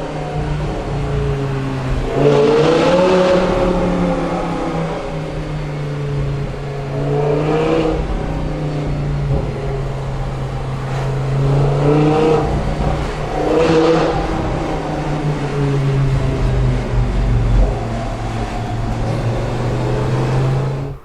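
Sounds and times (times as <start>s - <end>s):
sports car engine revving: 0.0s - 21.0s.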